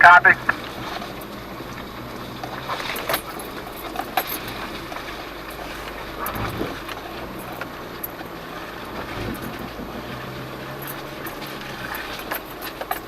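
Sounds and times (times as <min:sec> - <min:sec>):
low engine hum: 0:00.0 - 0:13.0
tires knocking over rocks: 0:00.0 - 0:13.0.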